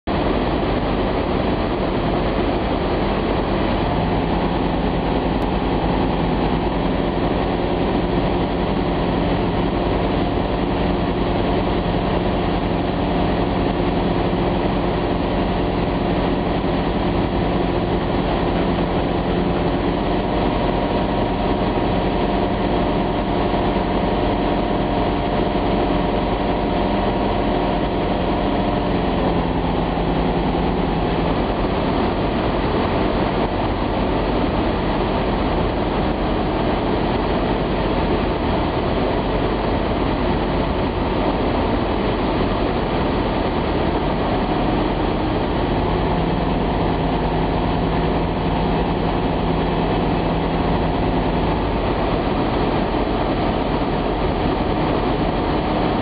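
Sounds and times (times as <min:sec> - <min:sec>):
aircraft engine and propeller drone: 0:00.1 - 0:56.0
rushing air noise: 0:00.1 - 0:56.0.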